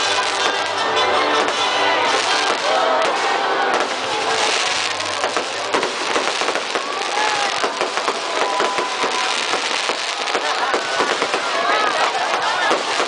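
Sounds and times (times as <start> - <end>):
crowd voices: 0.0 - 13.0
fireworks popping and crackling: 0.0 - 13.0.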